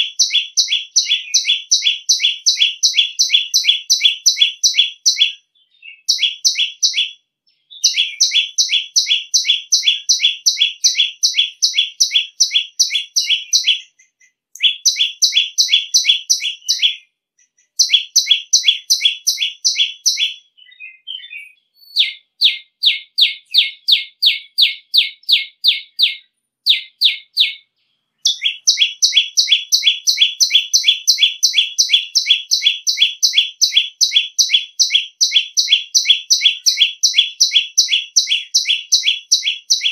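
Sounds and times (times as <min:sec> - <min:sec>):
bird calling shrill notes: 0:00.0 - 0:39.9.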